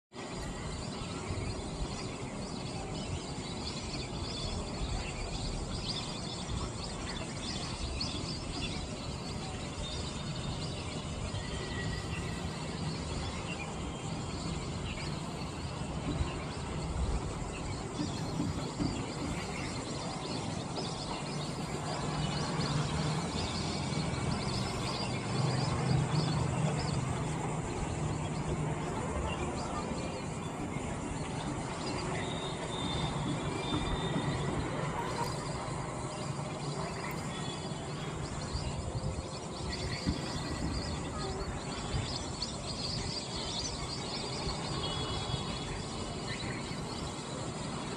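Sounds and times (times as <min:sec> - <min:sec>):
flock of birds chirping: 0:00.1 - 0:47.9.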